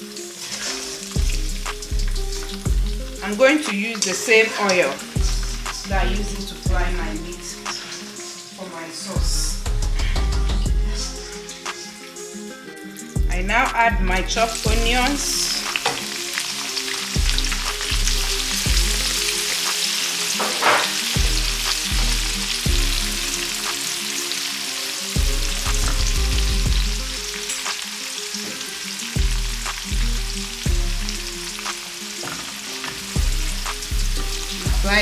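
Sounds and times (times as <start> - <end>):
onions sizzling in oil: 0.0 - 10.1, 10.7 - 12.5, 14.3 - 35.0
background music: 0.0 - 35.0.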